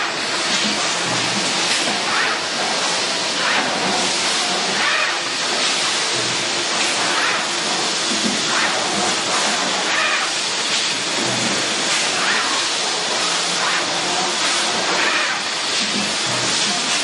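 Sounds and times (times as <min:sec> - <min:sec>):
hissing machine noise: 0:00.0 - 0:17.0.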